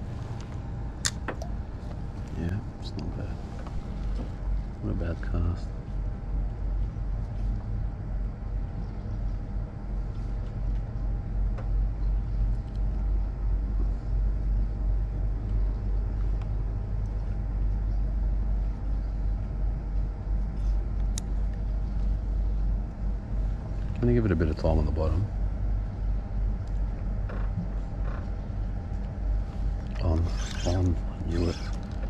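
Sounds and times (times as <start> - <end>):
faint steady hum: 0.0 - 32.0
low machinery rumble: 0.0 - 32.0.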